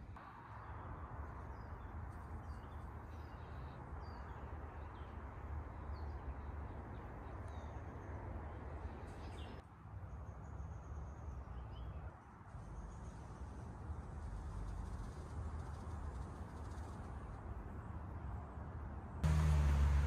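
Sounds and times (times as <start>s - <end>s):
low rushing background noise: 0.0s - 20.0s.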